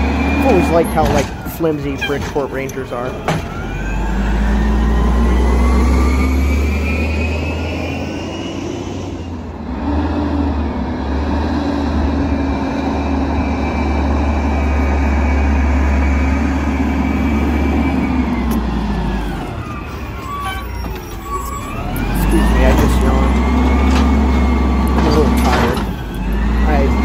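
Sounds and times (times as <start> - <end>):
diesel truck engine revving: 0.0 - 27.0.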